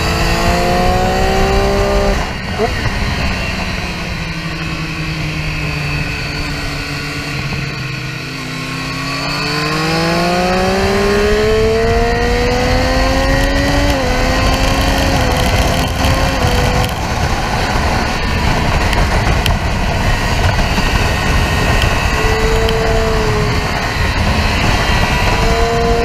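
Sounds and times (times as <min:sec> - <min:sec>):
motorcycle engine accelerating: 0:00.0 - 0:26.0
wind noise: 0:00.0 - 0:26.0.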